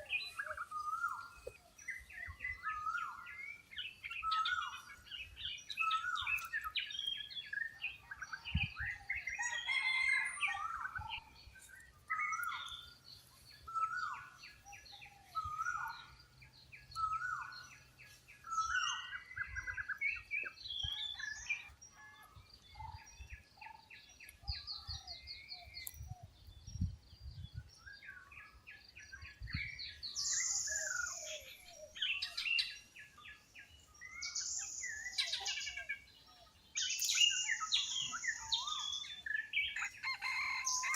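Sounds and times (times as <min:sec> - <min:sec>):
birds trilling and chirping: 0:00.0 - 0:40.9.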